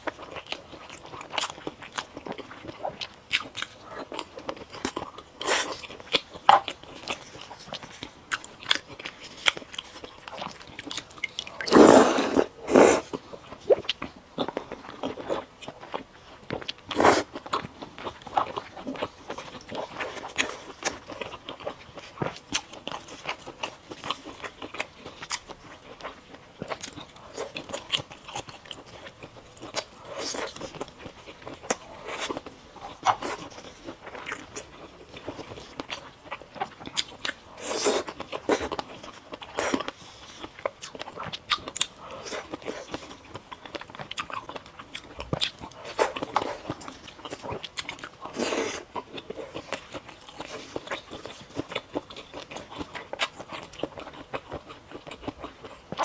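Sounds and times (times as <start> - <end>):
person biting and chewing crunchy food: 0.0 - 56.0.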